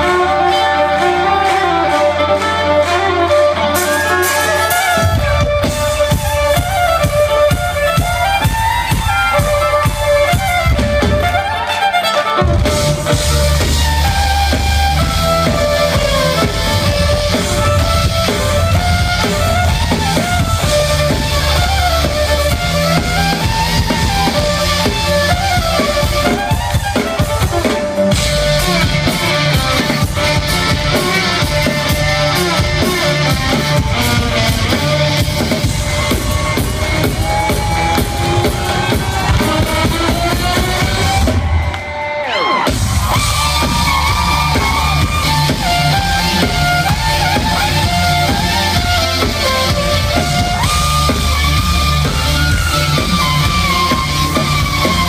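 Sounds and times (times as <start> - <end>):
amplified violin melody: 0.0 - 55.0.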